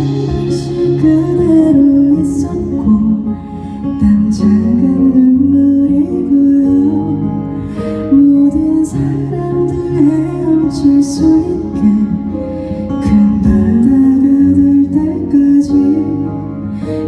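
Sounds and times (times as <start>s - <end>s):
acoustic guitar ballad: 0.0s - 17.0s.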